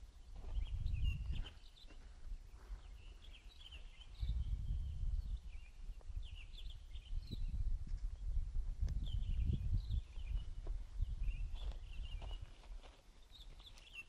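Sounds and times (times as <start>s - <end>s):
wind rumble on microphone: 0.0s - 13.5s
small birds chirping: 0.0s - 14.0s.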